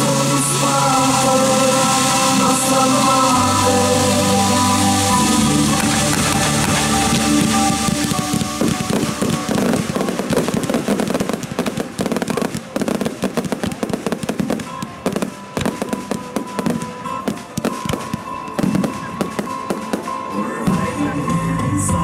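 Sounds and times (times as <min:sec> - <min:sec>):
fireworks bangs and crackling: 0:00.0 - 0:21.8
music playing: 0:00.0 - 0:22.0.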